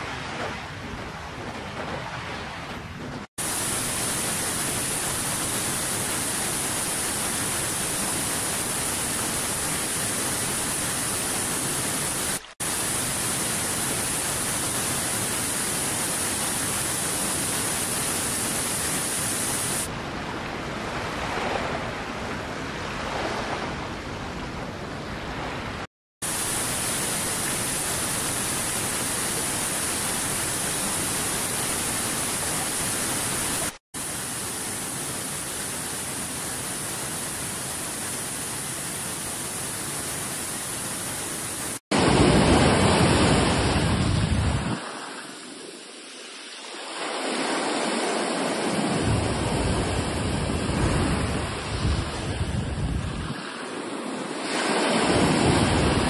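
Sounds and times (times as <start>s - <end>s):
rushing nature ambience: 0.0s - 51.8s.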